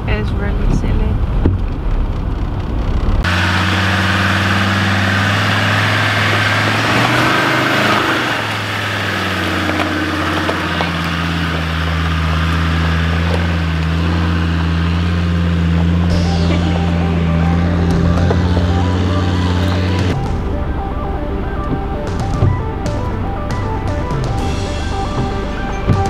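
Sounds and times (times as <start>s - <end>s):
engine running at low revs: 0.0s - 26.0s
vehicle cab noise: 0.0s - 26.0s.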